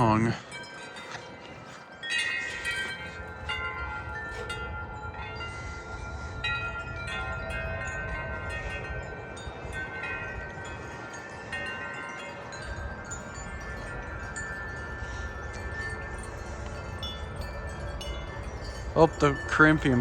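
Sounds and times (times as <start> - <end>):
low rumble of wind: 0.0 - 20.0
wind chimes ringing: 0.0 - 20.0.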